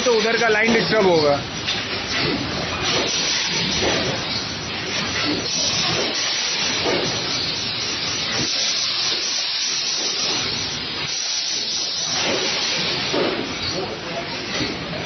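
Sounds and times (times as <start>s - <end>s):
shrink wrapping machine hissing: 0.0s - 15.0s.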